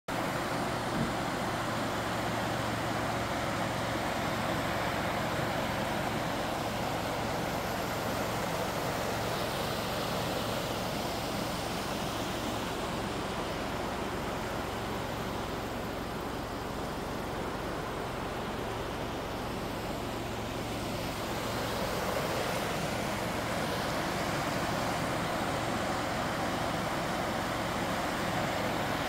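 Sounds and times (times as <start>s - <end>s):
stream rushing over stones: 0.1s - 29.0s.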